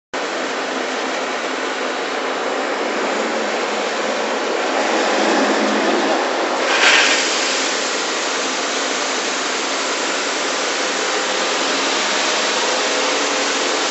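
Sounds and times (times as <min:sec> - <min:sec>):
concrete pump running: 0:00.2 - 0:13.9.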